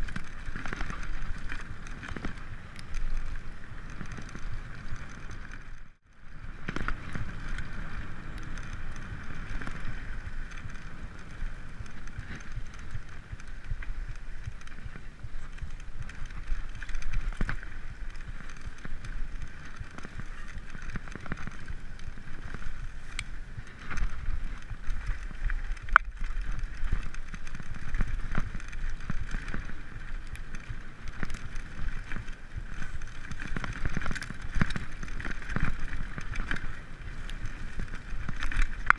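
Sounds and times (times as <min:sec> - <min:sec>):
bike rattling and knocking: 0:00.0 - 0:38.9
bike tyres on dirt: 0:00.0 - 0:38.9.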